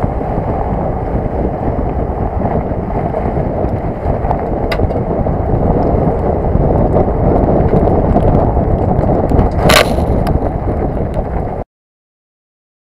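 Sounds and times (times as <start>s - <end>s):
tyre and road noise: 0.0s - 11.6s
wind buffeting on microphone: 0.0s - 11.6s.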